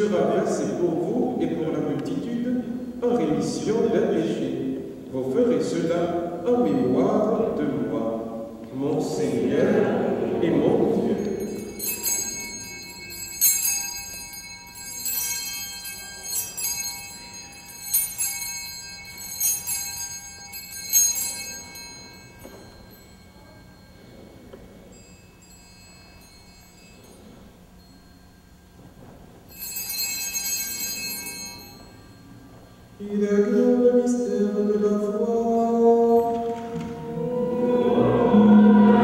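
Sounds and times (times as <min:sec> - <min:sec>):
altar bells ringing: 0:00.0 - 0:08.6, 0:10.7 - 0:39.0.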